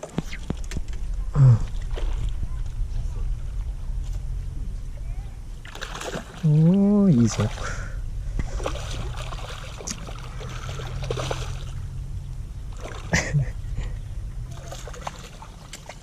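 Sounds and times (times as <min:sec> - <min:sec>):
low steady hum: 0:00.0 - 0:16.0
water splashing and sloshing: 0:00.0 - 0:16.0.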